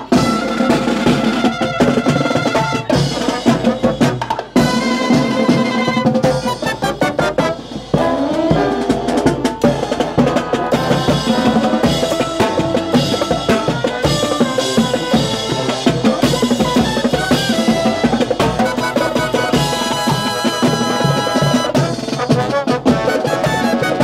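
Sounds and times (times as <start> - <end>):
brass section holding notes: 0.0 - 24.0
snare drum: 0.0 - 24.0
tenor drums: 0.0 - 24.0.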